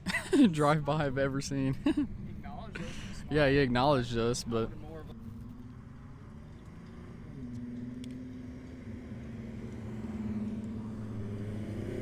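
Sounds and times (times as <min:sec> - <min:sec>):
car engine approaching: 0:00.3 - 0:12.0.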